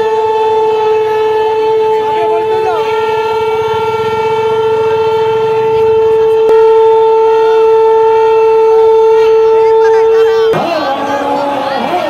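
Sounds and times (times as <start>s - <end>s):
conch shells blown: 0.0s - 10.4s.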